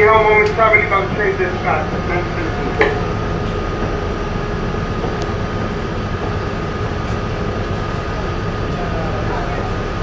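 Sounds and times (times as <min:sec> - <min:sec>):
subway car rumble and hum: 0:00.0 - 0:10.0.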